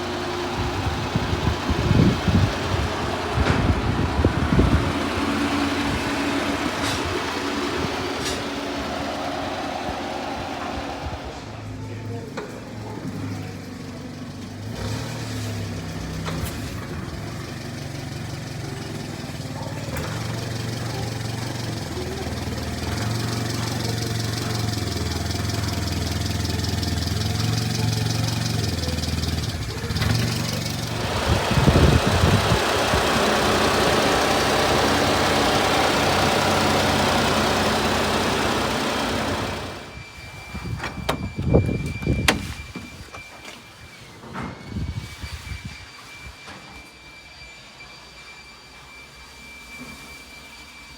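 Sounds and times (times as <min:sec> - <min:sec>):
small truck engine running: 0:00.0 - 0:45.0.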